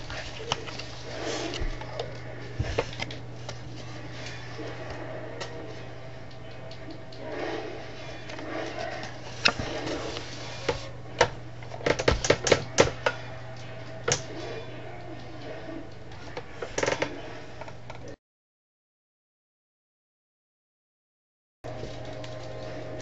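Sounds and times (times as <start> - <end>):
low electrical hum: 0.0 - 18.2, 21.7 - 23.0.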